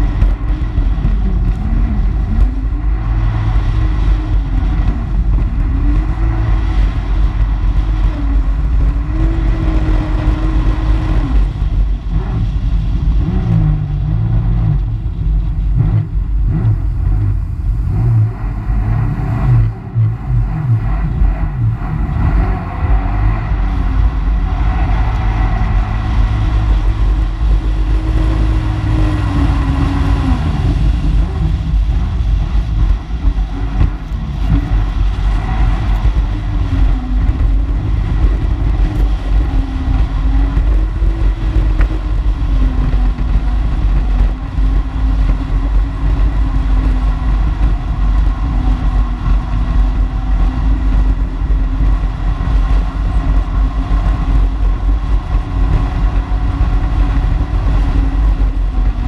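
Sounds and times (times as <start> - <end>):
watercraft engine running: 0.0 - 59.0
wind buffeting microphone: 0.0 - 59.0.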